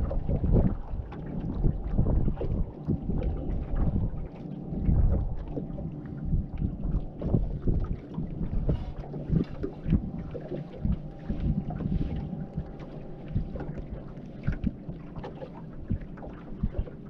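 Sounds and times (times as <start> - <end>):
water slapping against hull: 0.0 - 17.0
wind buffeting microphone: 0.0 - 17.0.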